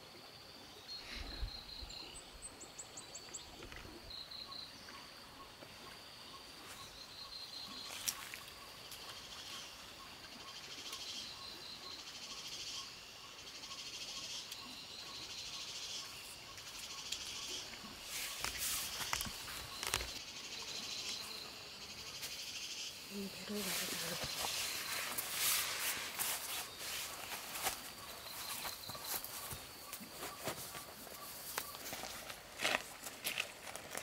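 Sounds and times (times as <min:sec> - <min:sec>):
crickets chirping: 0:00.0 - 0:34.0
soft ticking insect call: 0:00.0 - 0:34.0.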